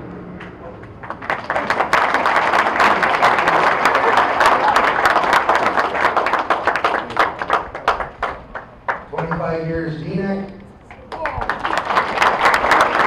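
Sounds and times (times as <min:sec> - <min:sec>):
audience applauding: 0:00.8 - 0:09.6, 0:10.9 - 0:13.0.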